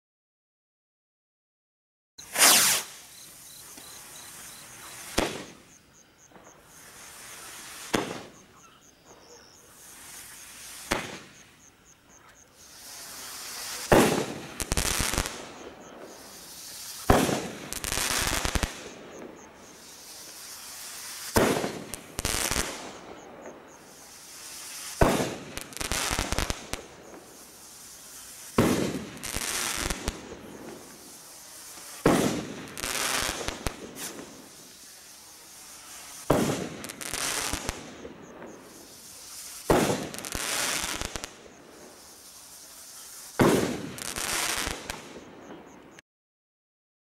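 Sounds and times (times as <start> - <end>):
firework rocket hissing: 2.2 - 5.8, 6.6 - 8.4, 9.7 - 11.7, 12.6 - 45.3
firework bangs: 2.2 - 8.5, 9.8 - 11.6, 12.7 - 45.7.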